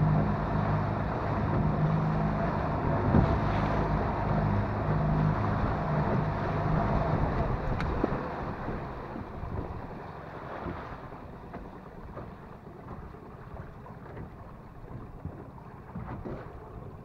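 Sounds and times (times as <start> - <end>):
water washing against boat hull: 0.0 - 17.0
wind buffeting microphone: 0.0 - 17.0.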